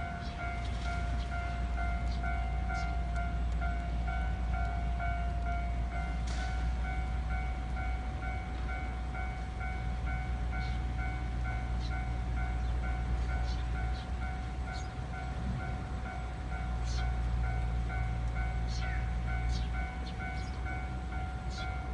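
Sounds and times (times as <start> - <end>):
level crossing warning bell: 0.0 - 21.9
train passing rumble: 0.0 - 21.9.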